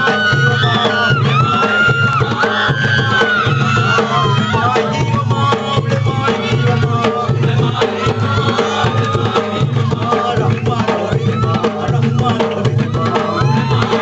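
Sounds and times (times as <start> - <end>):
barrel drum beaten fast: 0.0 - 14.0.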